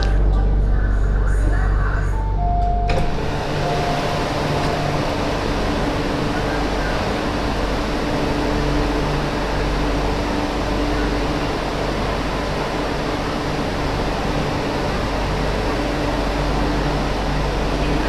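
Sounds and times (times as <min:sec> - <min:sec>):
low hum: 0:00.0 - 0:18.0
moving train rumble and hiss: 0:00.0 - 0:18.0.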